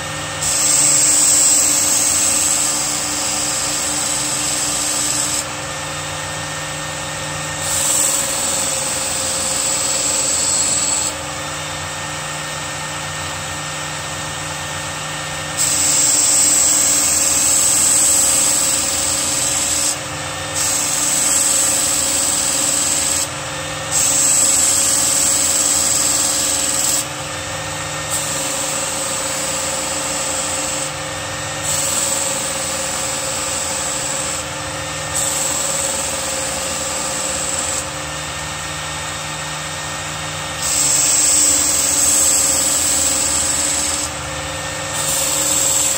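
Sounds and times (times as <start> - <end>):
electric belt sharpener running: 0.0 - 45.9.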